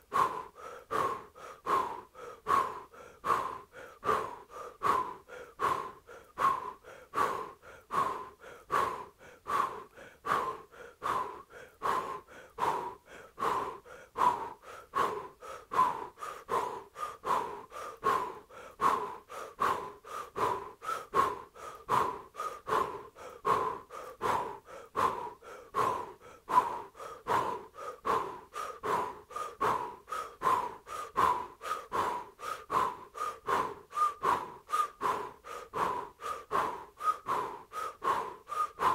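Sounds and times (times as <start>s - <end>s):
woman breathing rapidly: 0.0s - 38.9s.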